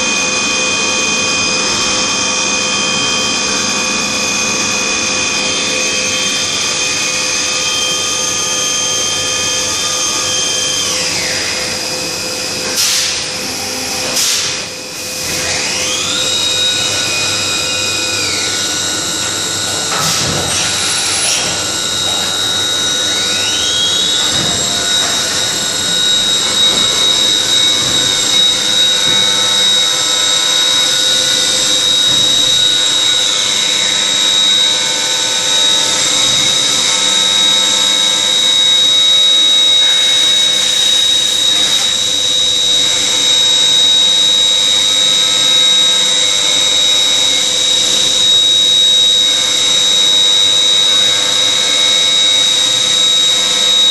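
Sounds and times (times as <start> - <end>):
milling machine whine: 0.0 - 53.9.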